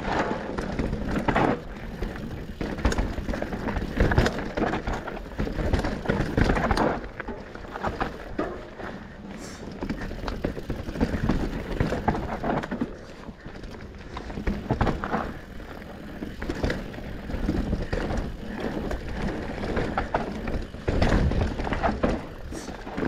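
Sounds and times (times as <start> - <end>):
bike tyres over dirt and rock: 0.0 - 23.0.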